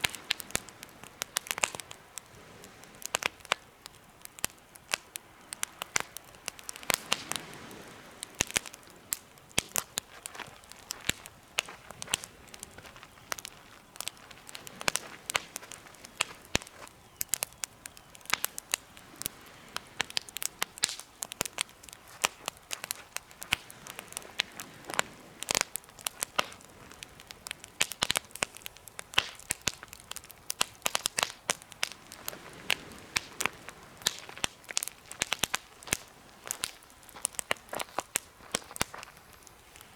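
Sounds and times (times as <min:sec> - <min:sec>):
campfire crackling and popping: 0:00.0 - 0:39.9
faint hiss of flame: 0:00.0 - 0:39.9.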